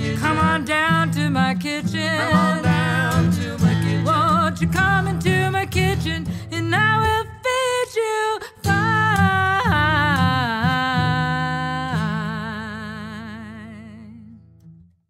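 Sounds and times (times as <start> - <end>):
person singing with vibrato: 0.0 - 14.5.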